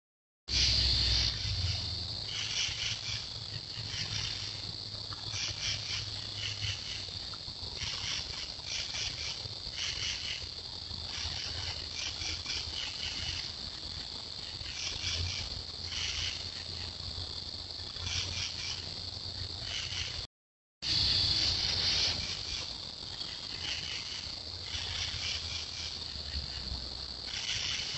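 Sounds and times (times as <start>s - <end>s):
crickets trilling and chirping: 0.5s - 27.9s.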